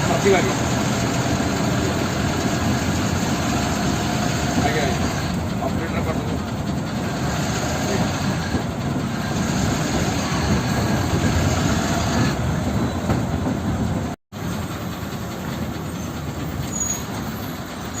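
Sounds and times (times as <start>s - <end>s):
heavy vehicle running: 0.0s - 18.0s.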